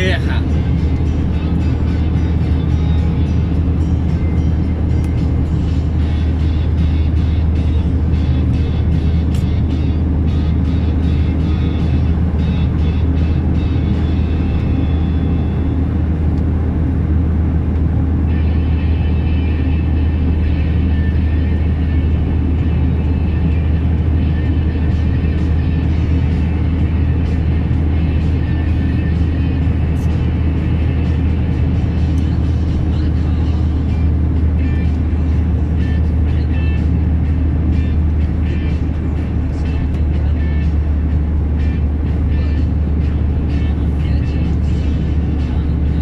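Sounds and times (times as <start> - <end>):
truck diesel engine drone: 0.0 - 46.0.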